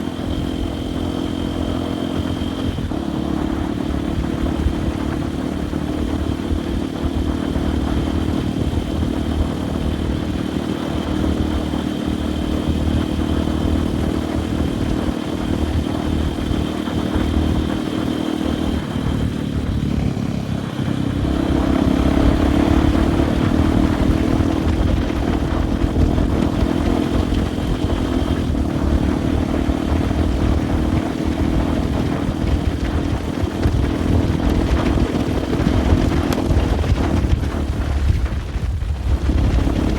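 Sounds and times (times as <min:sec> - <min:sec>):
dirt bike engine: 0:00.0 - 0:39.9.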